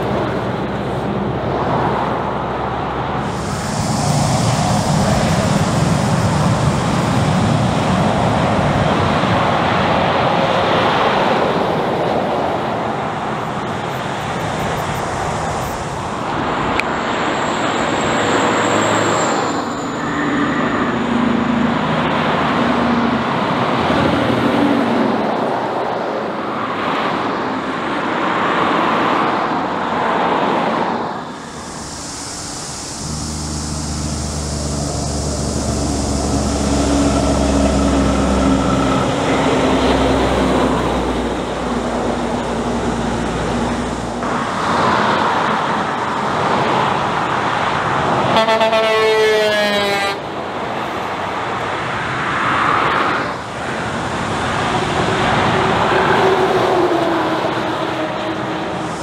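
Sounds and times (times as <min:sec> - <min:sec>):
heavy truck engine: 0:00.0 - 0:59.0
highway traffic passing: 0:00.0 - 0:59.0.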